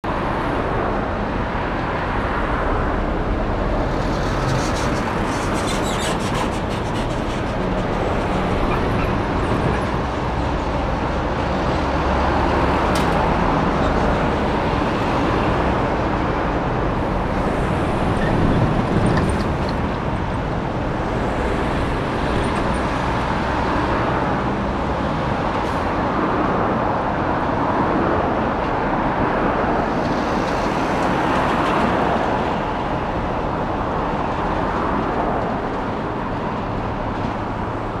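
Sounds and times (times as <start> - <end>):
cars and trucks passing: 0.0 - 38.0.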